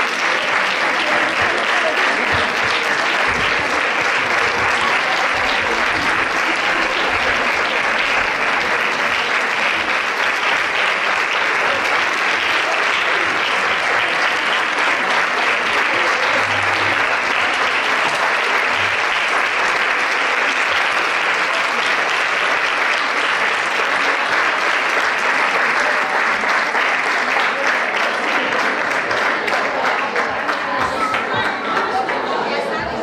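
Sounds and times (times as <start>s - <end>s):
audience applauding: 0.0s - 32.4s.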